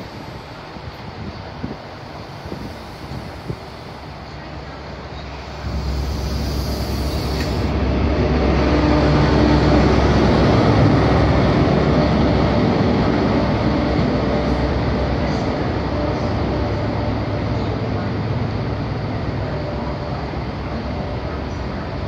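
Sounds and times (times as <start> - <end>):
diesel train engine running: 0.0 - 22.0
train wheels on rails: 0.0 - 22.0.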